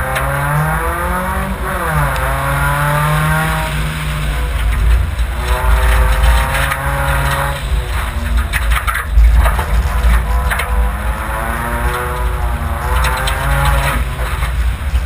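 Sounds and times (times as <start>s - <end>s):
gravel and mud hitting car: 0.0s - 15.0s
low rumble: 0.0s - 15.0s
rally car engine revving hard: 0.0s - 15.0s.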